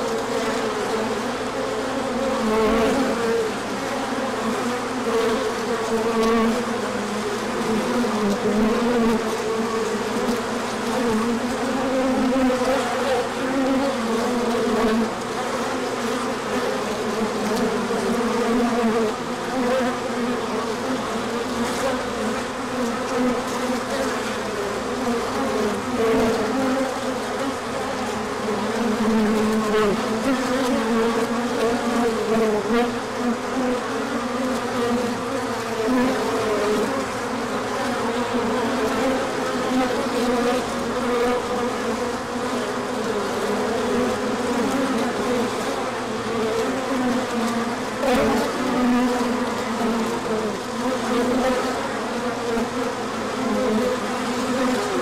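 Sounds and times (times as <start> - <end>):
honey bees buzzing: 0.0 - 55.0.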